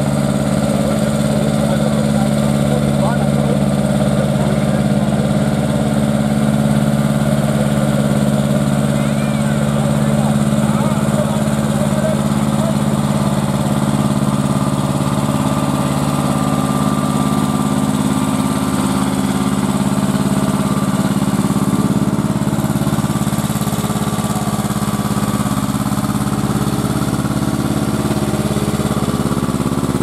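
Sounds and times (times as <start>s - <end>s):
diesel tractor engine running: 0.0s - 30.0s.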